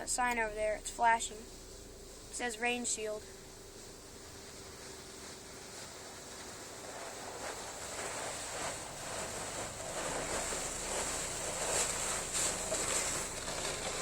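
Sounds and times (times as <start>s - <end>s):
car wash spray hissing: 0.0s - 14.0s.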